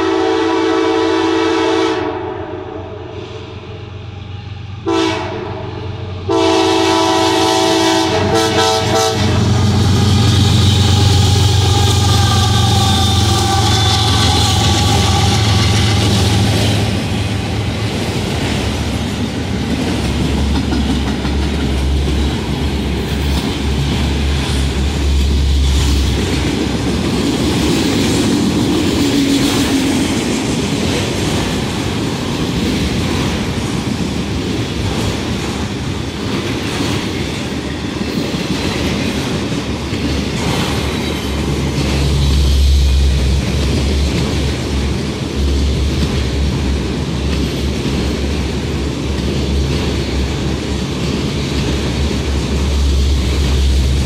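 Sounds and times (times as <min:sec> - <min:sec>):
freight cars rolling on rails: 0:05.8 - 0:54.0
wheels clicking over rail joints: 0:09.3 - 0:54.0.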